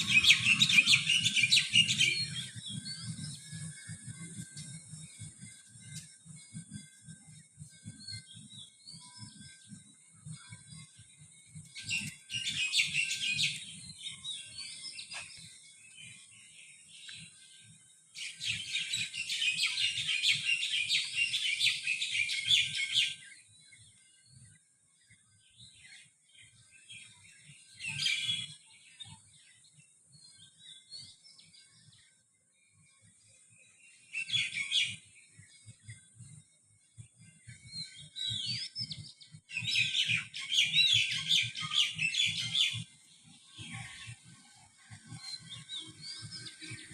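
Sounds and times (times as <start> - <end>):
songbirds singing and chirping: 0.0 - 46.9.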